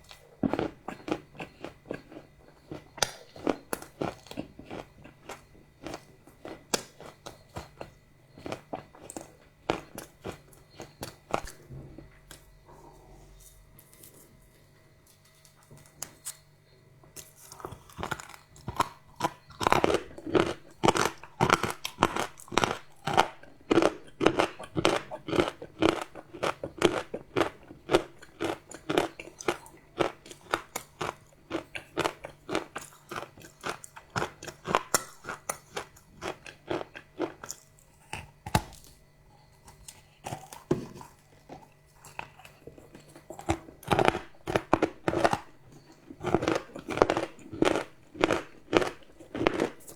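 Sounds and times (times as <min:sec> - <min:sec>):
chewing crunchy chocolate: 0:00.0 - 0:49.9.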